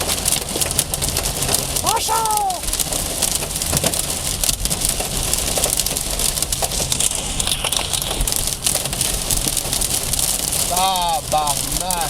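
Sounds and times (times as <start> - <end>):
hail pelting a car roof: 0.0 - 7.0, 8.2 - 12.0.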